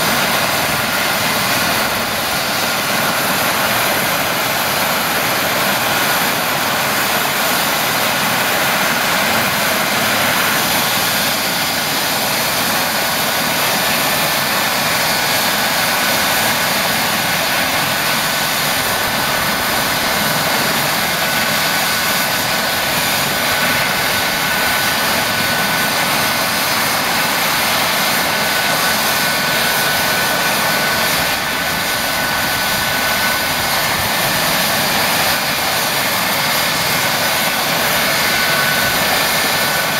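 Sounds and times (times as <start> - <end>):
helicopter rotors and turbine: 0.0 - 39.9
high turbine whine: 0.0 - 39.9.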